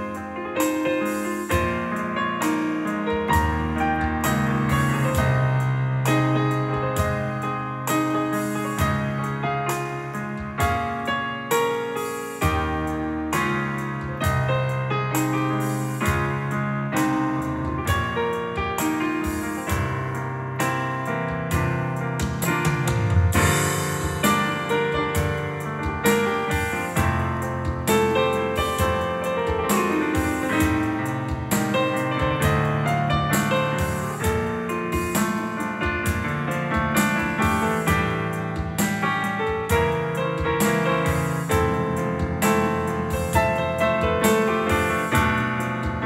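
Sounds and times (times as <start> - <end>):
digital piano chords: 0.0 - 46.0.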